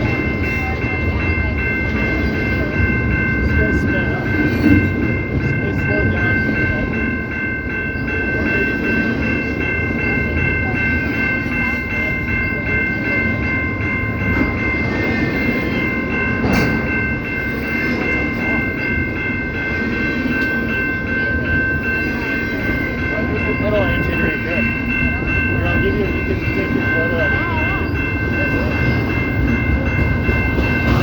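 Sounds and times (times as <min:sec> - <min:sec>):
train rolling rumble: 0:00.0 - 0:31.0.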